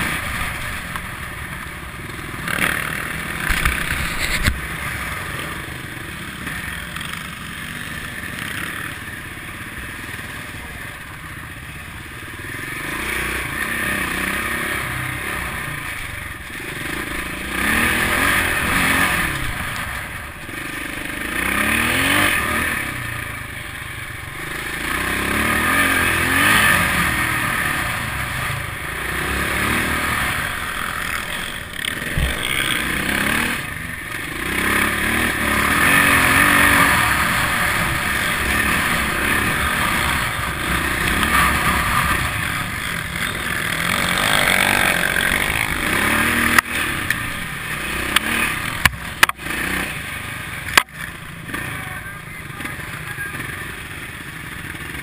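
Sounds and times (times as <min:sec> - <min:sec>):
dirt bike engine: 0:00.0 - 0:55.0.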